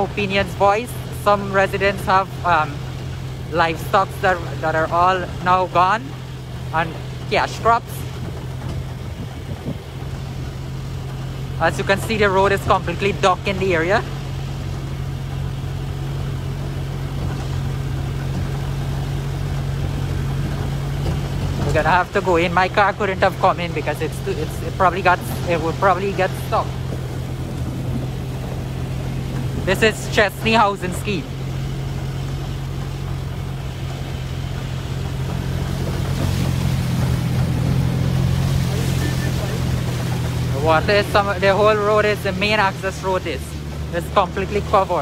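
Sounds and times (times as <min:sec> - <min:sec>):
vehicle engine running: 0:00.0 - 0:45.0
water washing: 0:00.0 - 0:45.0.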